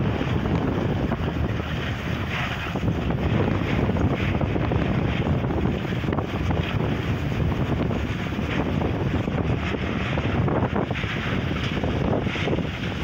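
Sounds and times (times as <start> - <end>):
wind buffeting microphone: 0.0 - 13.0
windrower engine running: 0.0 - 13.0.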